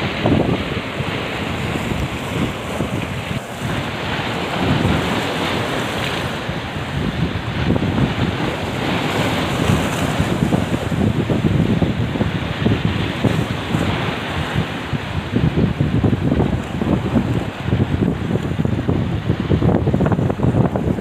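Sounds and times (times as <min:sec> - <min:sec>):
waves churning: 0:00.0 - 0:21.0
wind buffeting microphone: 0:00.0 - 0:21.0.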